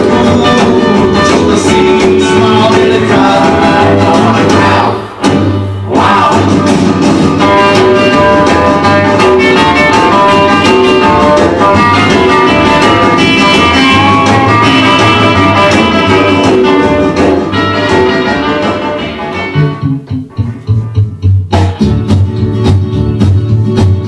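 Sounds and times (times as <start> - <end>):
guitar-led rock and roll music: 0.0 - 24.0.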